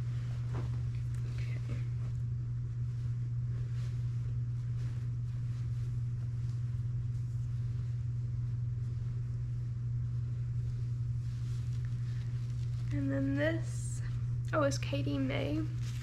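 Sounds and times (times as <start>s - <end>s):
clothing rustling: 0.0s - 16.0s
low hum: 0.0s - 16.0s.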